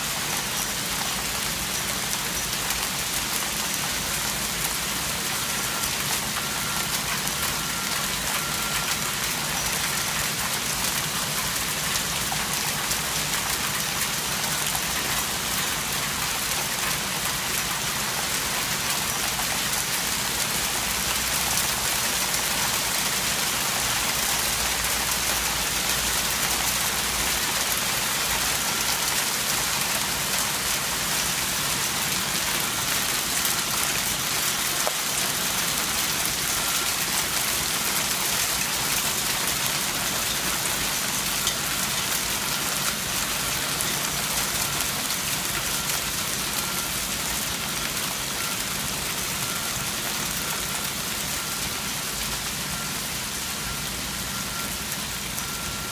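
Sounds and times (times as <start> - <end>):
hail falling: 0.2 - 52.2.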